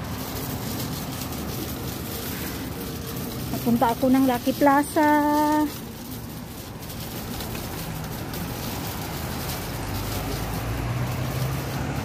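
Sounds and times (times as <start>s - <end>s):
traffic noise: 0.0s - 12.0s
vehicle engine rumbling: 0.0s - 12.0s.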